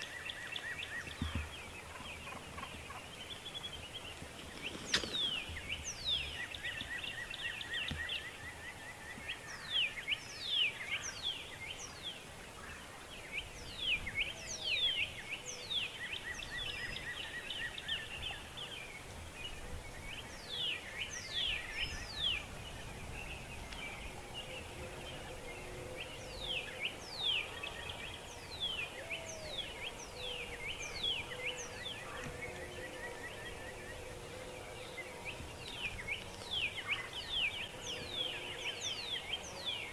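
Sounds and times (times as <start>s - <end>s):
songbirds whistling: 0.0s - 12.2s, 12.8s - 39.9s
steady background hiss: 0.0s - 39.9s.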